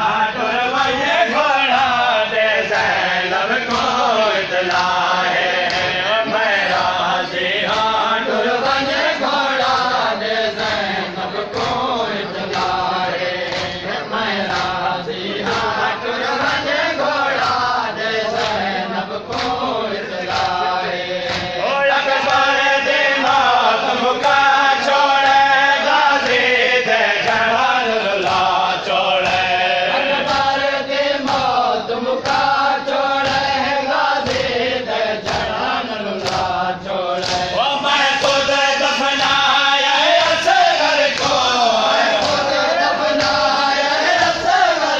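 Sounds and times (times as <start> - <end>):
men chanting loudly: 0.0 - 44.9
hands slapping chests: 0.8 - 7.0, 7.6 - 44.9.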